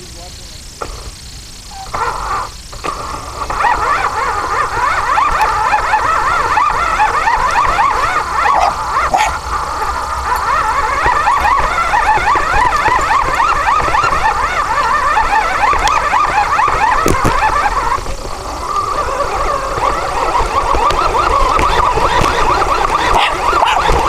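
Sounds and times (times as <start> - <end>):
robot drive whine: 0.0 - 24.0.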